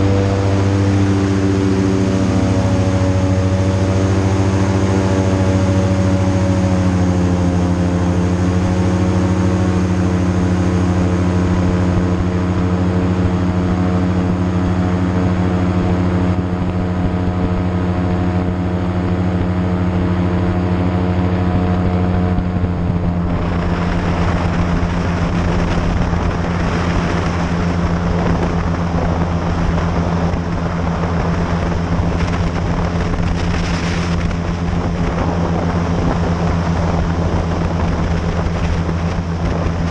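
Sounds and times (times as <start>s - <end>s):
airboat engine and propeller drone: 0.0s - 39.9s
rough rushing noise: 0.0s - 39.9s.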